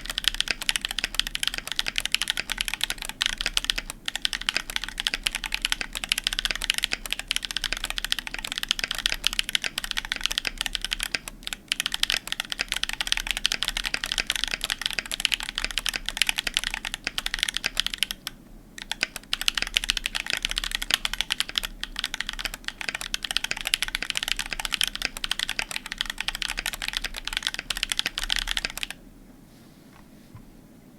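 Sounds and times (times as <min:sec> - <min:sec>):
fast typing on mechanical keyboard: 0:00.0 - 0:29.0.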